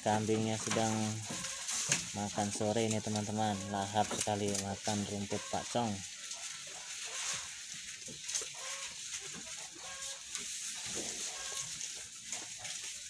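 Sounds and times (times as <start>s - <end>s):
goats chewing grass: 0.0s - 13.0s.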